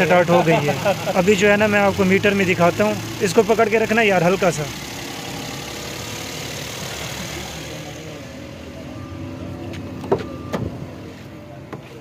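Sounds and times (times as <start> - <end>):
small car engine idling: 0.0 - 12.0.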